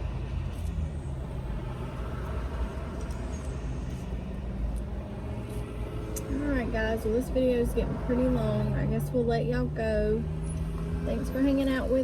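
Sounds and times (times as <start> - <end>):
car engine rumbling inside cabin: 0.0 - 12.0.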